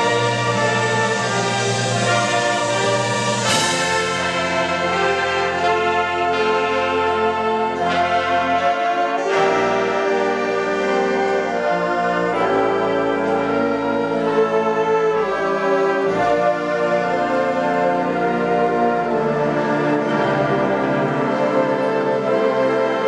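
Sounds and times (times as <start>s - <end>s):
concert band playing slow chords: 0.0s - 22.5s.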